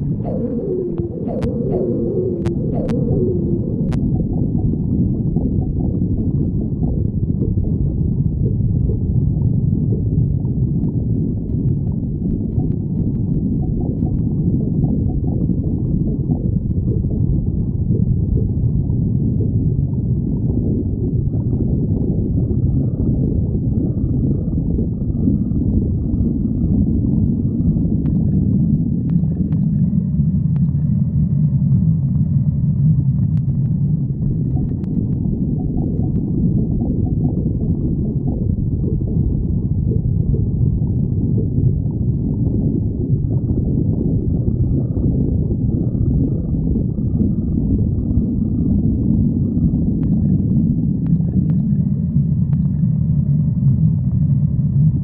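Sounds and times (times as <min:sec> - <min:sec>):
stomach growling: 0:00.0 - 0:55.0.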